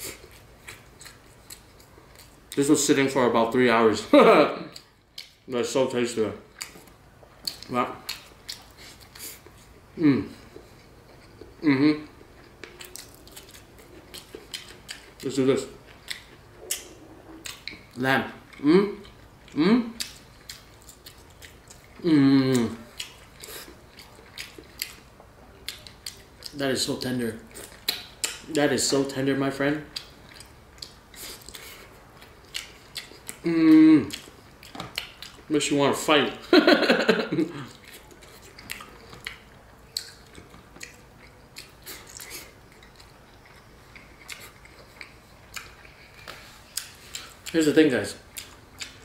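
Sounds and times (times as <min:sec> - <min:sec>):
close chewing: 0:00.0 - 0:02.6, 0:04.7 - 0:05.4, 0:06.4 - 0:28.5, 0:29.8 - 0:35.6, 0:37.3 - 0:49.0.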